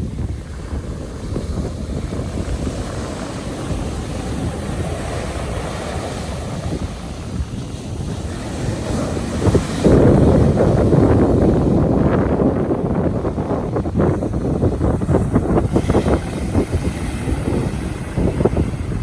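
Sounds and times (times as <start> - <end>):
stormy sea surf breaking: 0.0 - 19.0
wind buffeting microphone: 0.0 - 19.0.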